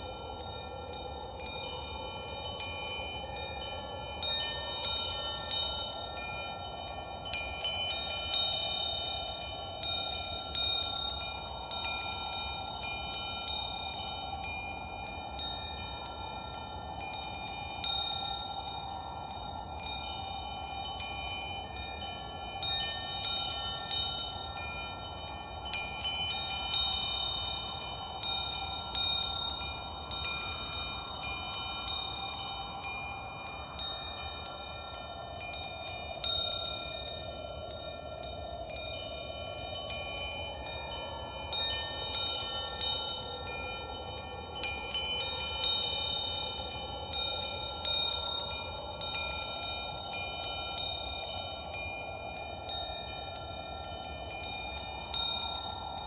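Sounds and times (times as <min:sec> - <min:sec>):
wind chimes ringing: 0:00.0 - 0:56.0.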